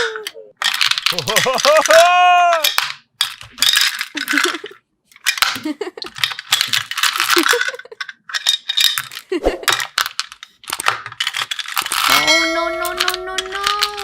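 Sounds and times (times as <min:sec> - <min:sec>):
toy pieces clinking and rattling: 0:00.0 - 0:14.0.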